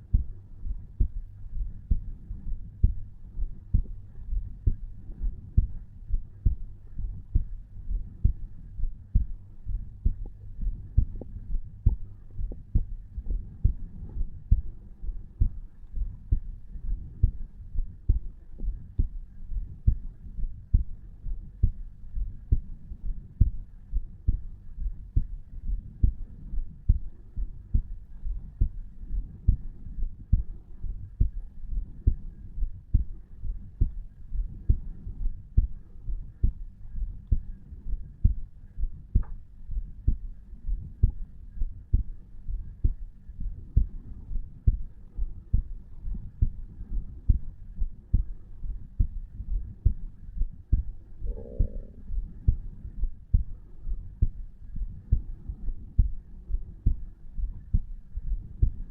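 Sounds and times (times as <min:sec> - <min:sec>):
human heartbeat: 0:00.0 - 0:58.9
low background hum: 0:00.0 - 0:58.9.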